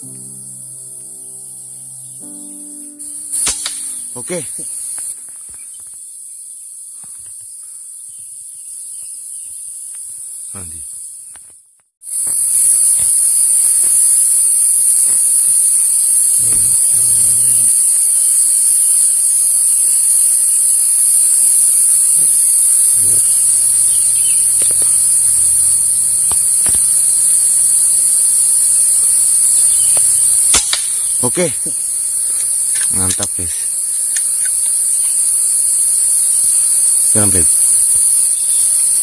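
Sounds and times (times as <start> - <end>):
insect chorus drone: 0.0 - 39.0.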